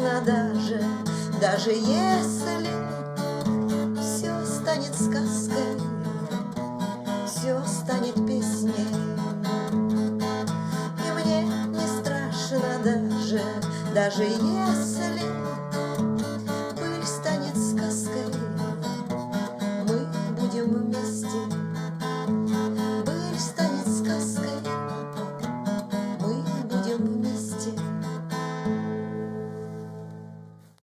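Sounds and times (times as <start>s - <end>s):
acoustic guitar strumming: 0.0s - 30.7s.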